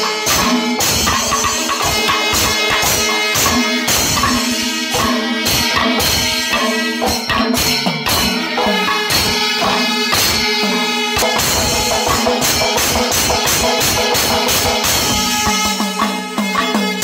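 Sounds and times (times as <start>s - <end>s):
cymbals: 0.0s - 17.0s
percussion ensemble drumming: 0.0s - 17.0s.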